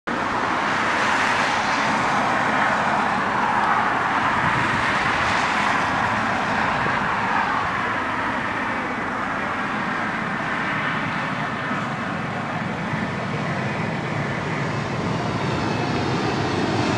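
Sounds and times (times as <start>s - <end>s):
jet engines roaring: 0.1s - 16.9s
road traffic noise: 0.1s - 16.9s.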